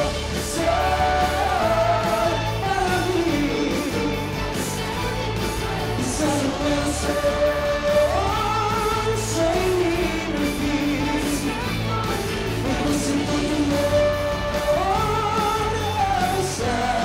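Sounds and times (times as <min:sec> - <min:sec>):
acoustic guitar: 0:00.0 - 0:17.0
drum beat: 0:00.0 - 0:17.0
man singing: 0:00.0 - 0:17.0.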